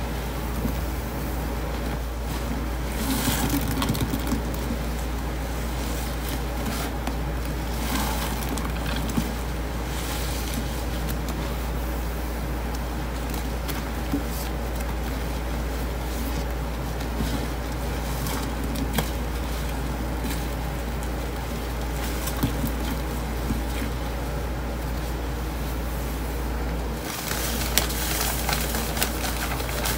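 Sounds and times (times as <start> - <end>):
sponge squelching: 0.0 - 29.9
steady low hum: 0.0 - 29.9.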